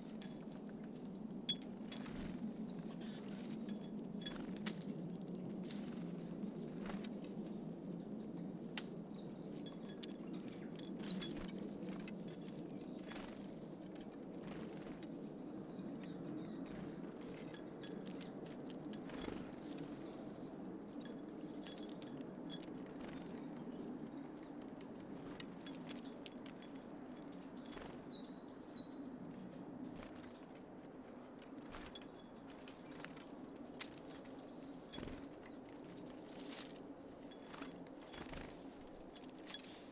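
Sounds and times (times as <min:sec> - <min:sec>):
birds pecking and landing: 0:00.0 - 0:07.7, 0:08.8 - 0:28.4, 0:29.0 - 0:39.9.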